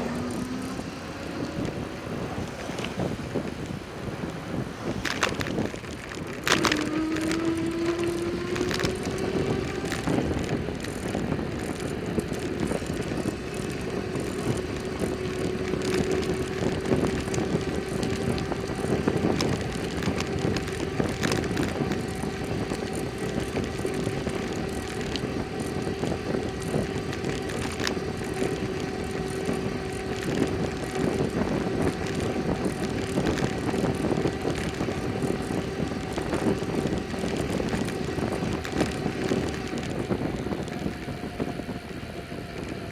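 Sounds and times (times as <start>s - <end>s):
constant hum: 0.0s - 42.9s
road and wind rush: 0.0s - 42.9s
bicycle knocks and jolts: 4.5s - 41.4s.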